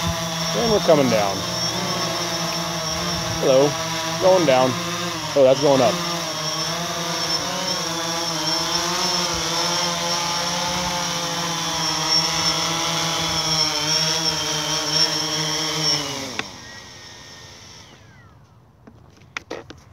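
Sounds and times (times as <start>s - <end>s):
drone motors spinning down: 0.0s - 18.5s
drone propellers whining: 0.0s - 18.6s.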